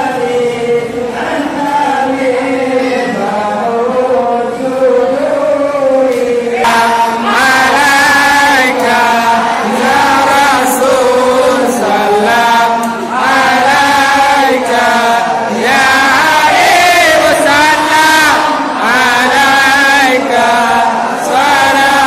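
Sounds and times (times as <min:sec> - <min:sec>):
men chanting in unison: 0:00.0 - 0:22.0.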